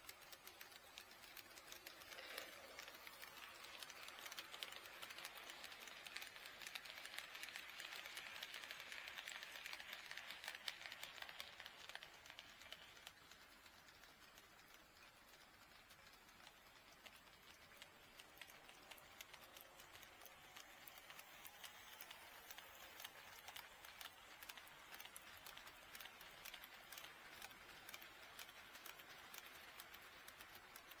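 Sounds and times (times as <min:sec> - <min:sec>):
model train wheels clicking: 0:00.0 - 0:31.0.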